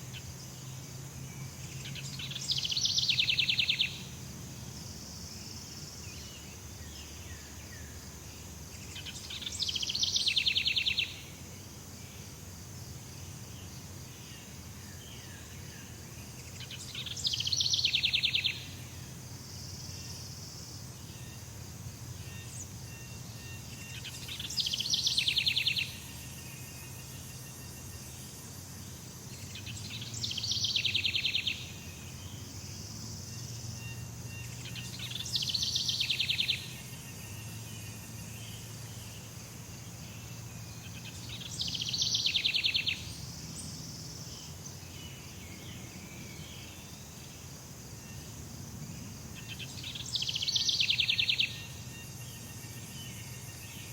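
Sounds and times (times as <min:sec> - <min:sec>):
high insect drone: 0:00.0 - 0:53.9.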